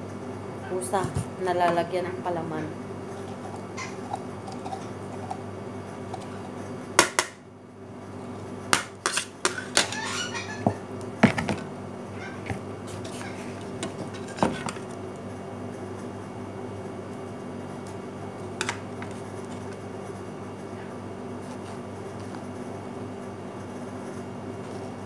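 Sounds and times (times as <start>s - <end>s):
low kitchen hum: 0.0s - 25.0s.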